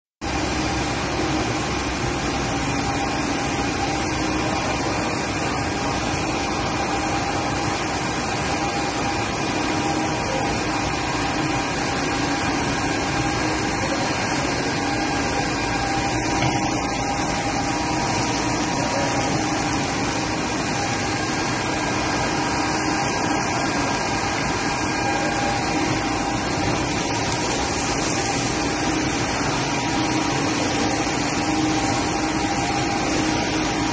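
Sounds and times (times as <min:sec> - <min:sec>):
press line machinery droning: 0:00.2 - 0:33.9.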